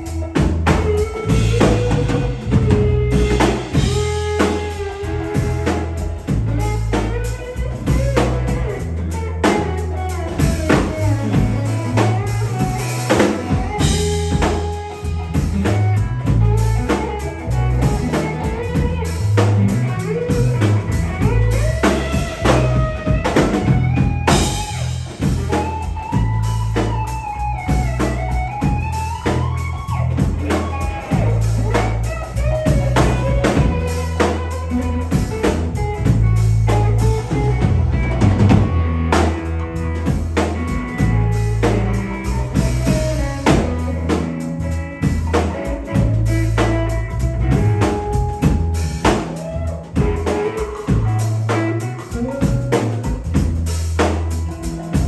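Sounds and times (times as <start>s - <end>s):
bass guitar: 0.0s - 55.0s
drum kit: 0.0s - 55.0s
electric guitar with bent notes: 0.0s - 55.0s.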